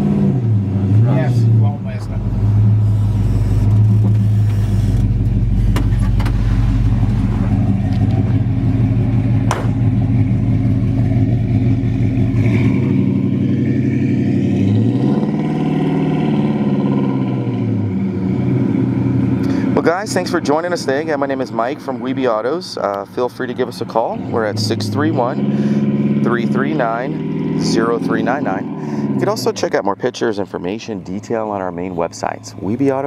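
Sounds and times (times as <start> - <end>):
pickup truck vne engine driving: 0.0 - 33.0.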